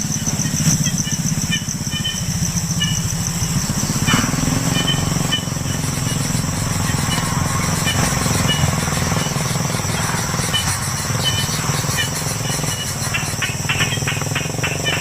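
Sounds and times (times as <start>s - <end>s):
insect trilling: 0.0s - 15.0s
low pulsing motor drone: 0.0s - 15.0s.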